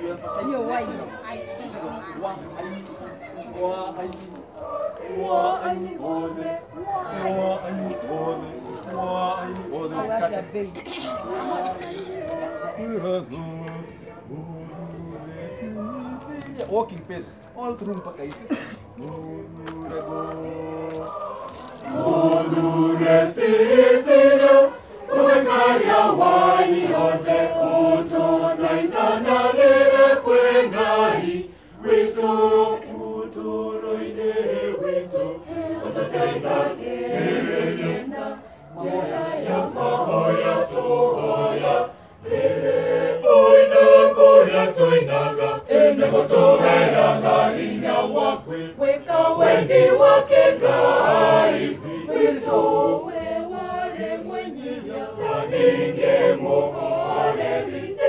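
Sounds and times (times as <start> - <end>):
mixed choir singing a cappella: 0.0 - 16.3, 18.5 - 58.0.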